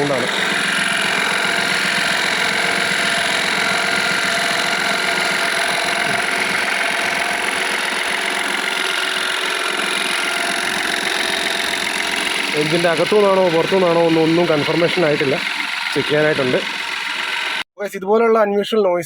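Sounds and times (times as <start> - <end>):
car engine idling: 0.0 - 17.6
fast ticking rattle: 0.0 - 17.6.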